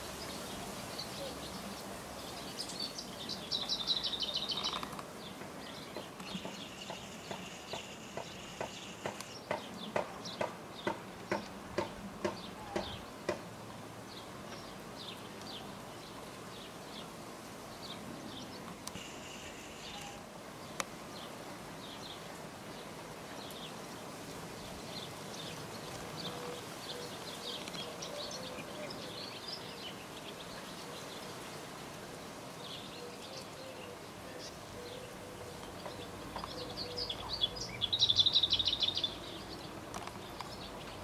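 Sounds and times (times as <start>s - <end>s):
outdoor background noise: 0.0s - 41.0s
small birds chirping: 0.0s - 41.0s.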